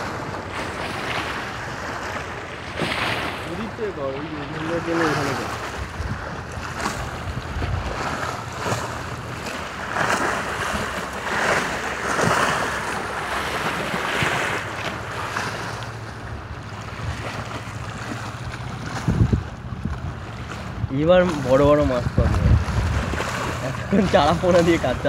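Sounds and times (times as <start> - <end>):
waves splashing against bank: 0.0 - 25.0
wind buffeting microphone: 0.0 - 25.0.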